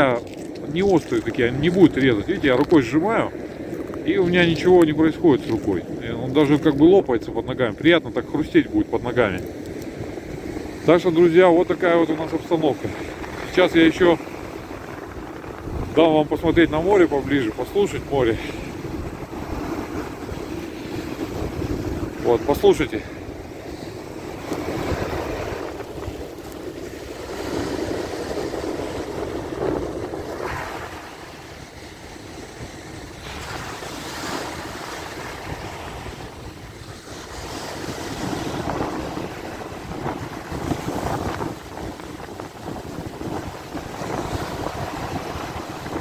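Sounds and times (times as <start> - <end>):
surf breaking on beach: 0.0 - 46.0
wind buffeting microphone: 0.0 - 46.0.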